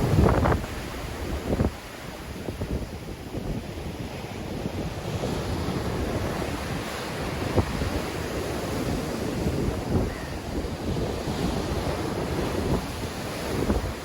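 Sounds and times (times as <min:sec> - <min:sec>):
sea waves breaking on shore: 0:00.0 - 0:14.0
wind buffeting microphone: 0:00.0 - 0:14.0.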